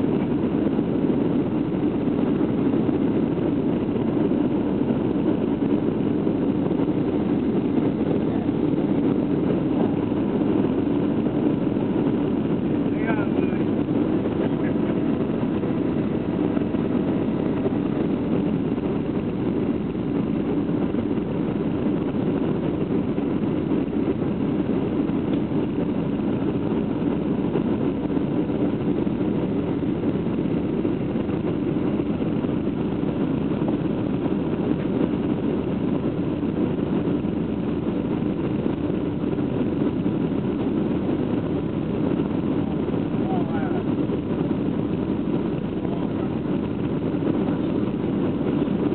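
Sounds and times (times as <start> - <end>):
jet engine cabin drone: 0.0 - 48.9.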